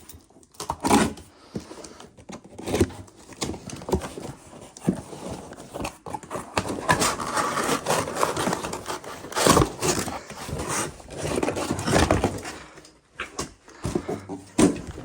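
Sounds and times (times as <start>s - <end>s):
parts and tools scraping and knocking: 0.0s - 15.0s.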